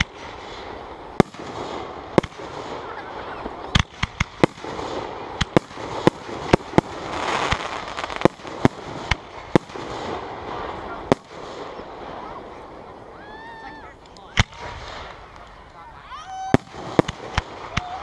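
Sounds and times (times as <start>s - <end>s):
firework bangs: 0.0s - 13.6s, 14.3s - 15.7s, 16.3s - 18.0s
background hubbub: 0.0s - 18.0s.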